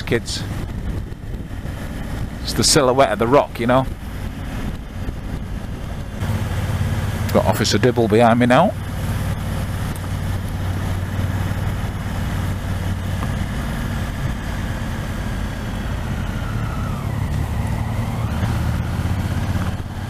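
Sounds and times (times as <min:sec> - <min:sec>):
wind noise: 0:00.0 - 0:07.0, 0:08.8 - 0:20.0
motorcycle engine cruising: 0:00.0 - 0:20.0
road noise: 0:00.0 - 0:20.0.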